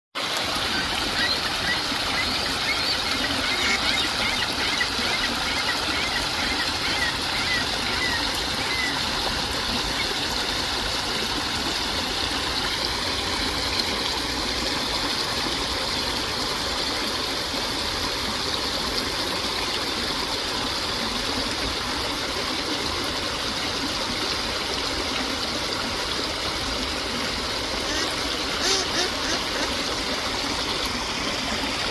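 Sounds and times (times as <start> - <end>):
water flowing in a stream: 0.2 - 31.9.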